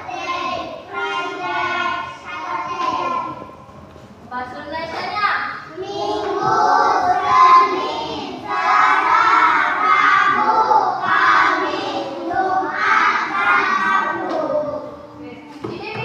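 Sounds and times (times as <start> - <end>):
children singing in unison: 0.0 - 3.6, 5.7 - 15.2.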